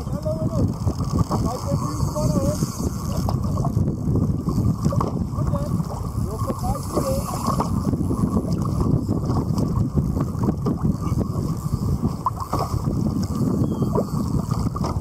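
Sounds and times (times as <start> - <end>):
water lapping against kayak hull: 0.0 - 15.0
wind buffeting microphone: 0.0 - 15.0.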